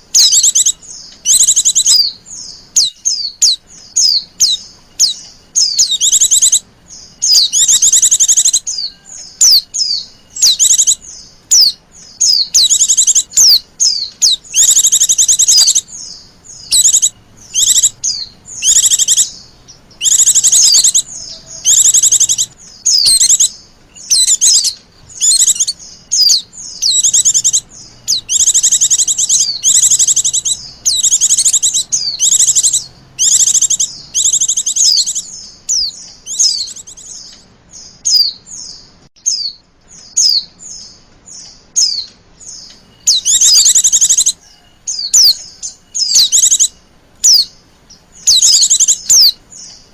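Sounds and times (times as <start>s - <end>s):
birds chirping trills: 0.0s - 49.9s.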